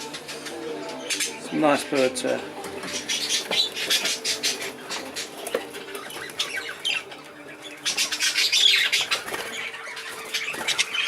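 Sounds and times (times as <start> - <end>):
budgerigars chattering and squawking: 0.0 - 11.0.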